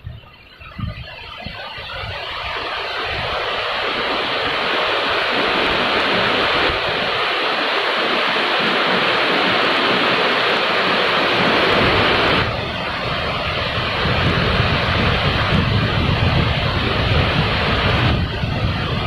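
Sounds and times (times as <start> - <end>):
rain falling: 2.2 - 19.0.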